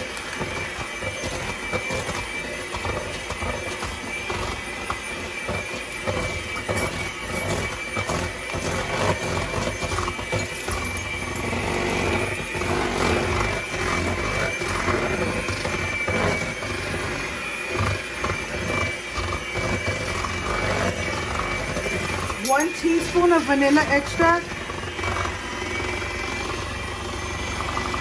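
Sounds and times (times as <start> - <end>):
electric hand mixer whining: 0.0 - 28.0.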